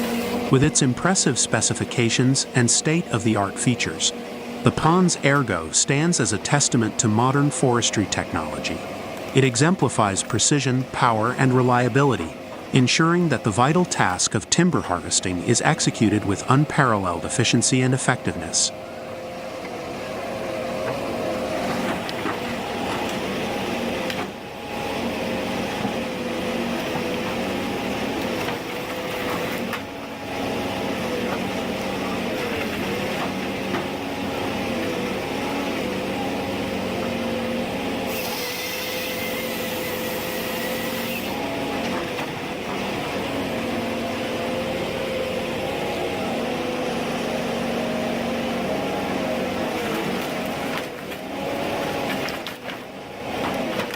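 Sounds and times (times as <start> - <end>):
diesel engine under load: 0.0 - 38.6, 39.2 - 53.9.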